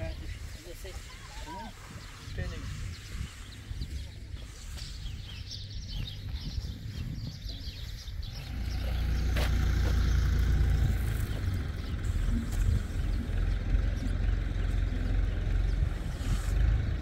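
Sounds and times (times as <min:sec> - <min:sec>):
small birds chirping: 0:00.0 - 0:17.0
low rumble: 0:01.5 - 0:17.0.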